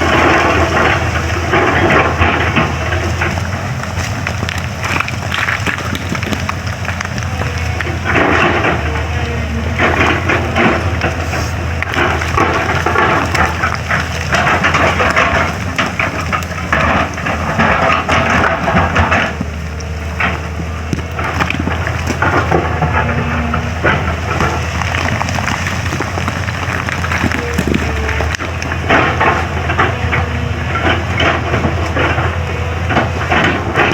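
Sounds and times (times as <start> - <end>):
diesel engine running: 0.0 - 33.9
rubble crunching and clattering: 0.0 - 33.9.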